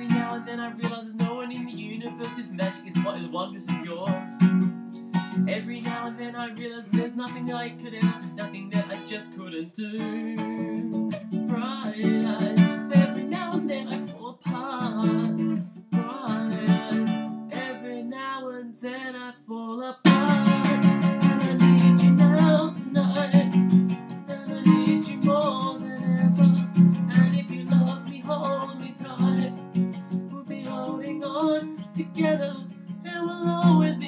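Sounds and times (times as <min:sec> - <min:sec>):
acoustic guitar strumming: 0:00.0 - 0:18.0, 0:20.0 - 0:34.0.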